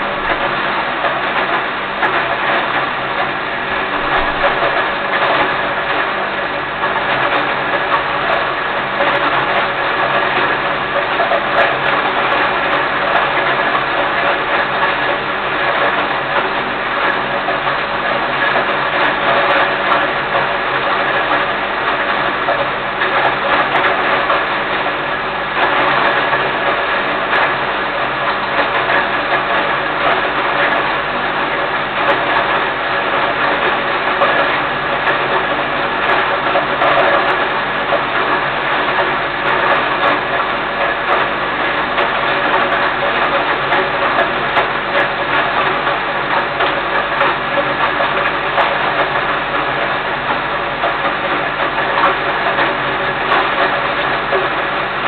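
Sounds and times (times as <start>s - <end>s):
hammer mill whirring: 0.0s - 55.0s.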